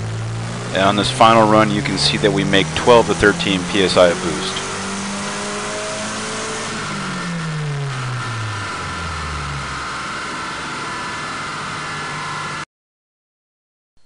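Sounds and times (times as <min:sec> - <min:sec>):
truck engine revs falling: 0:00.0 - 0:12.6
high whine: 0:00.0 - 0:12.7.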